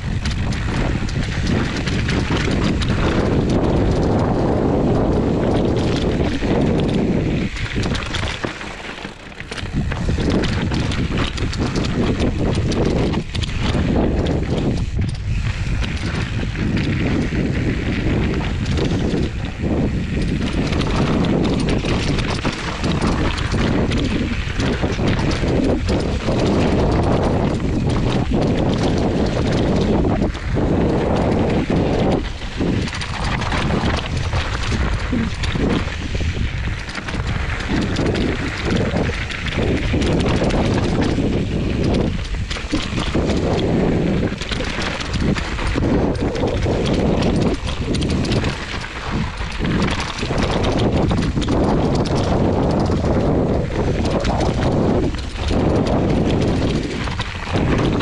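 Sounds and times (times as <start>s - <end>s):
bike clattering over bumps: 0.0s - 58.0s
tyres crunching over dirt and stones: 0.0s - 58.0s.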